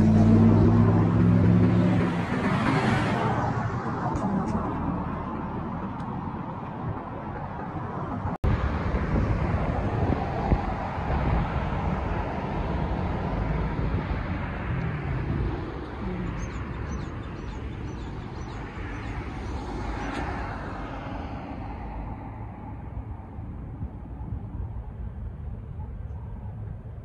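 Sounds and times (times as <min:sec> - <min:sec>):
car engines rumbling: 0:00.0 - 0:27.0
tyres on tarmac: 0:00.0 - 0:27.0.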